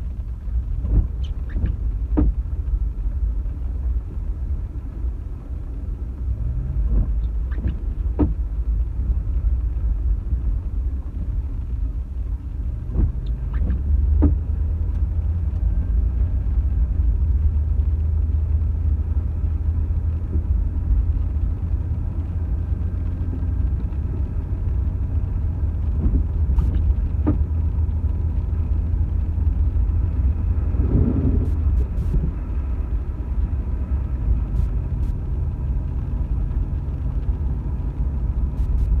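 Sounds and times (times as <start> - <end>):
car road rumble: 0.0 - 39.0.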